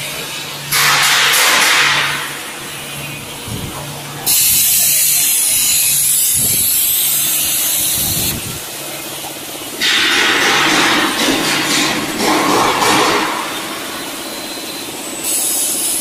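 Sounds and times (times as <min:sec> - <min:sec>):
machinery humming: 0:00.0 - 0:16.0
loud steady hiss: 0:00.7 - 0:16.0.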